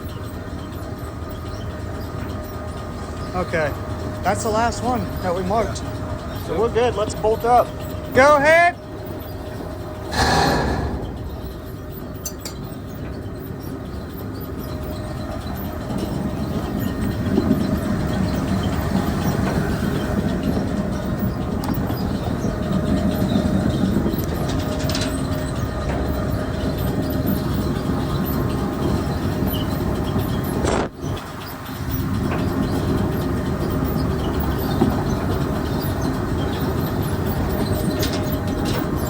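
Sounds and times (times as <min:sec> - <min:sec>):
grain elevator rumble and clatter: 0:00.0 - 0:39.0.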